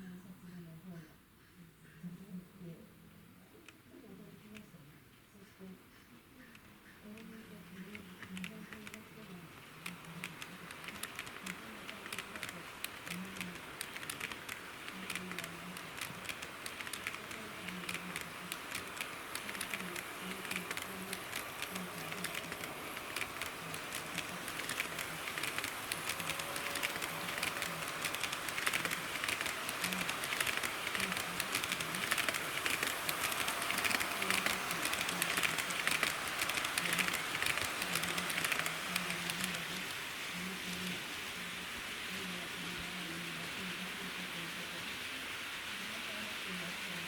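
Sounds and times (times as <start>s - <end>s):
model train wheels clicking: 6.5s - 47.0s
rolling hiss: 6.6s - 47.0s.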